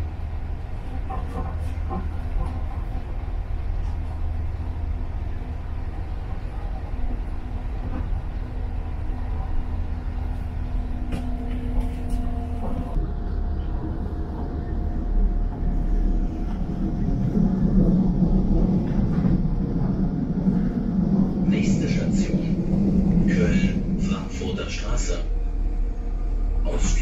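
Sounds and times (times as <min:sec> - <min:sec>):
train carriage rumble: 0:00.0 - 0:27.0.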